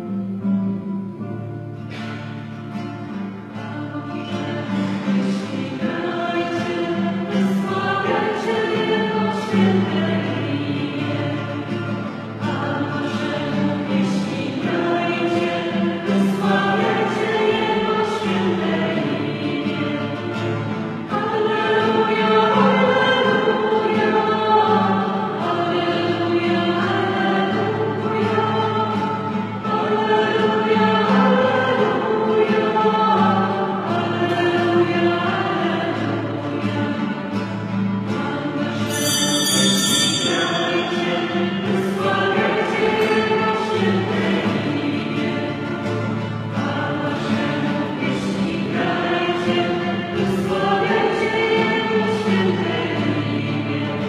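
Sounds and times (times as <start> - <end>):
choir singing a hymn: 1.8 - 54.0.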